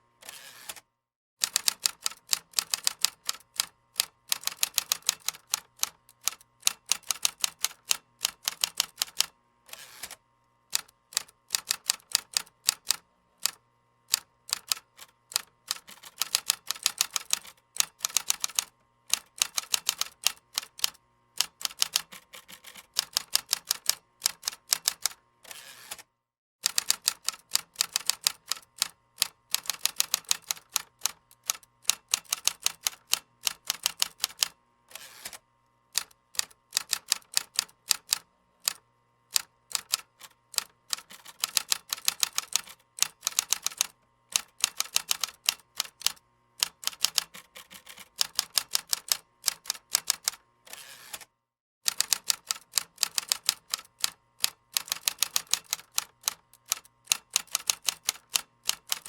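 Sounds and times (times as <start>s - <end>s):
computer keyboard typing: 1.4s - 9.3s, 10.8s - 25.2s, 26.6s - 34.6s, 36.0s - 50.4s, 51.9s - 59.0s.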